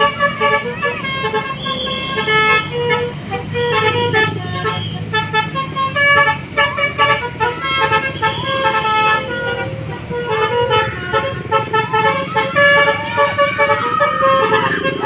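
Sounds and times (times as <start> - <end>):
bus engine hum: 0.0 - 15.0
musical bus horns playing melodies: 0.0 - 15.0.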